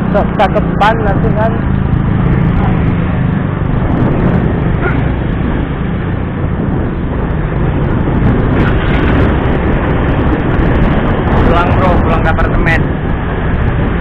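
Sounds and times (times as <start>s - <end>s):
motorcycle engine running: 0.0s - 12.2s
wind rushing over microphone: 0.0s - 14.0s.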